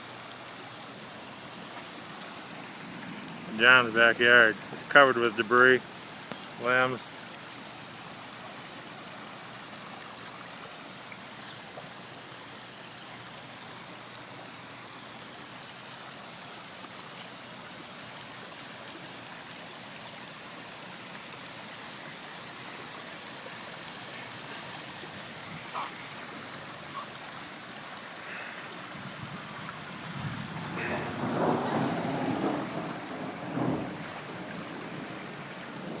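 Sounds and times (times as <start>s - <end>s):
rushing floodwater: 0.0s - 36.0s.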